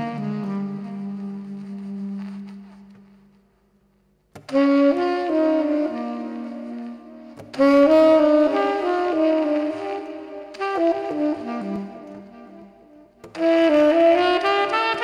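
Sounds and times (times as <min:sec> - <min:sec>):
tenor saxophone solo melody: 0:00.0 - 0:03.1, 0:04.4 - 0:15.0.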